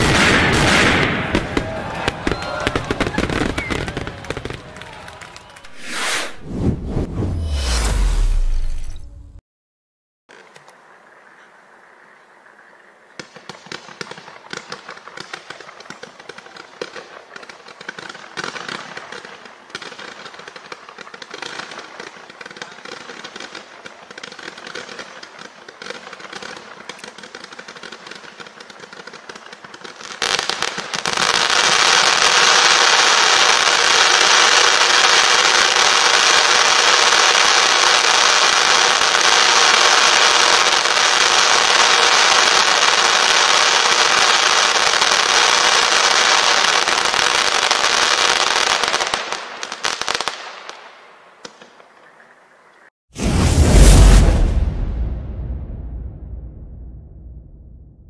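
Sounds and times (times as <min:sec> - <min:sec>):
dense fireworks barrage: 0:00.0 - 0:08.7, 0:13.2 - 0:50.9, 0:53.1 - 0:58.0
fireworks popping: 0:00.0 - 0:09.0, 0:13.2 - 0:50.8.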